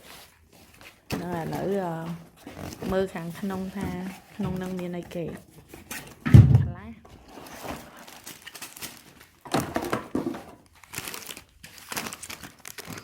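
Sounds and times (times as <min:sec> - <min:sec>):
plastic packaging crinkling: 0:00.0 - 0:06.2, 0:07.2 - 0:13.0.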